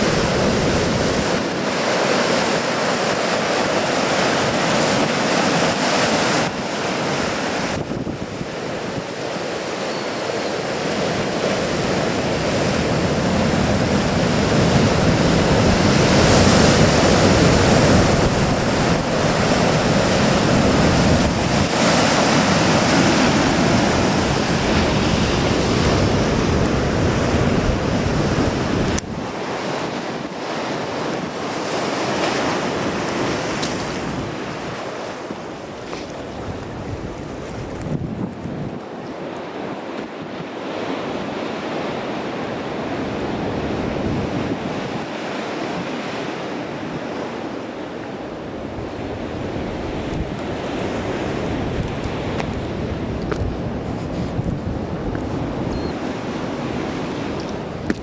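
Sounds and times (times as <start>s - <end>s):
wind buffeting microphone: 0.0s - 9.9s, 10.5s - 58.0s
surf breaking on rocky shore: 0.0s - 58.0s.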